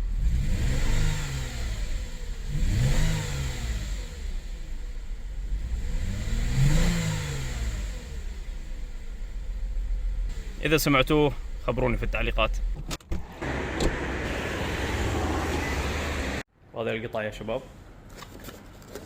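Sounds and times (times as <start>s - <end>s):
misfiring car engine revving: 0.0s - 16.5s.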